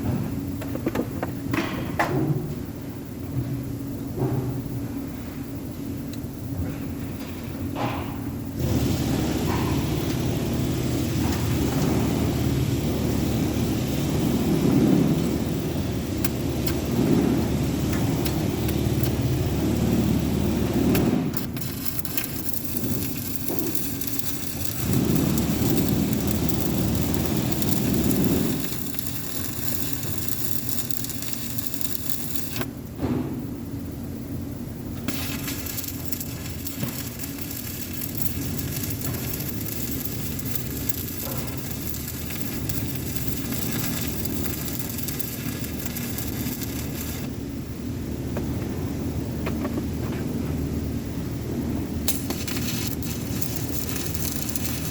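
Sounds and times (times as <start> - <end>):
welding arc crackling hiss: 0.0 - 32.8, 33.8 - 54.9
continuous low hum: 0.0 - 54.9.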